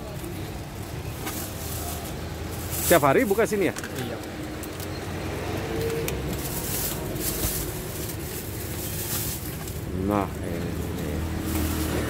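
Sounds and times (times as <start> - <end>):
motorbike engines: 0.0 - 12.0
plastic bags rustling: 0.0 - 12.0
street traffic rumble: 0.0 - 12.0.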